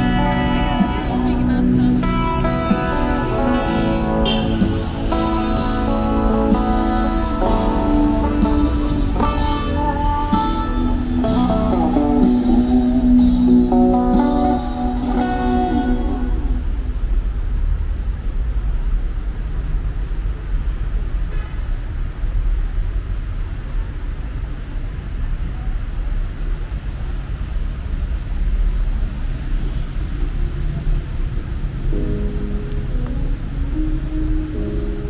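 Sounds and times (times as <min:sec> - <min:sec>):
cars and buses passing: 0:00.0 - 0:35.0.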